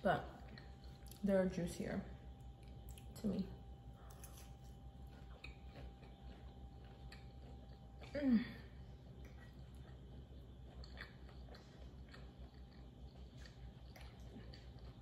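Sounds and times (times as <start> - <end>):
low room hum: 0.0 - 15.0
faint chewing: 0.2 - 1.3, 2.3 - 15.0.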